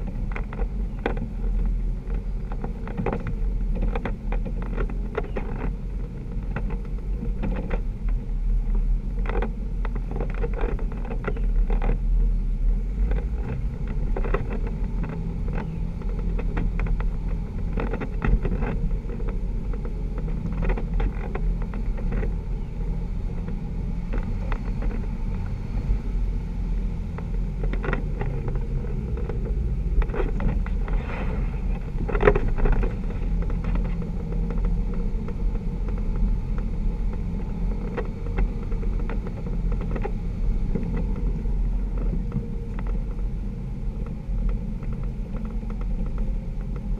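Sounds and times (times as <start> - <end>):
car engine running at low speed: 0.0 - 46.9.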